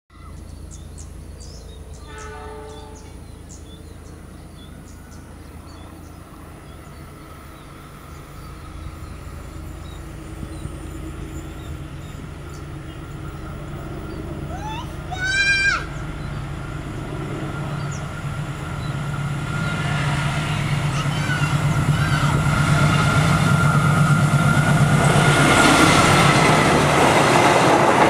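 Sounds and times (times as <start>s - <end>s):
distant train rumble: 0.1s - 28.0s.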